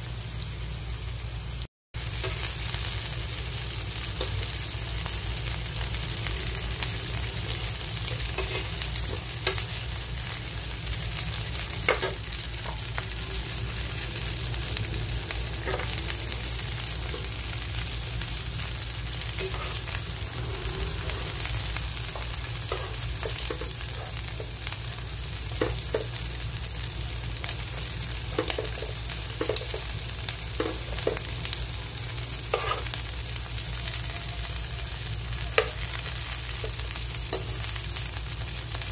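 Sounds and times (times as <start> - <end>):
shrimp sizzling in a frying pan: 0.0 - 38.9.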